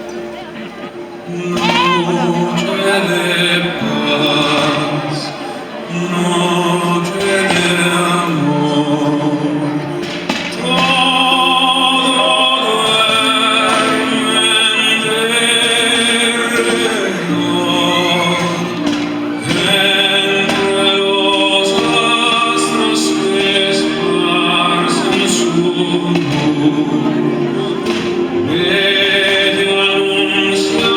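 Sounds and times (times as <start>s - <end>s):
operatic singing with music: 0.0s - 30.9s.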